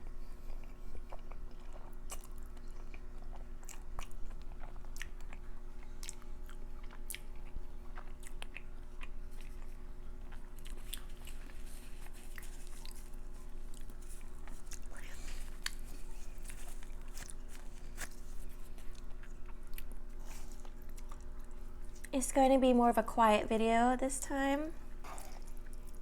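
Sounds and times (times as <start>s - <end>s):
person chewing food: 0.0s - 22.1s, 24.9s - 26.0s.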